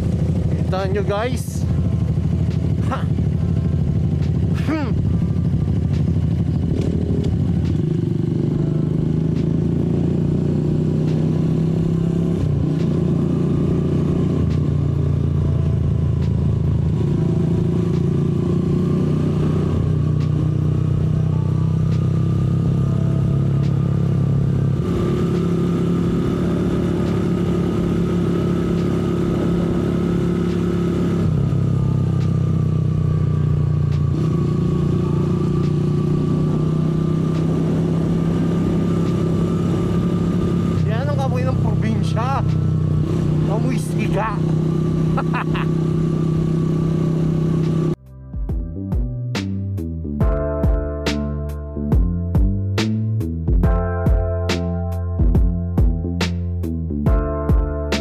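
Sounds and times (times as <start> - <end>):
motorcycle engine running: 0.0 - 49.5, 50.2 - 56.5.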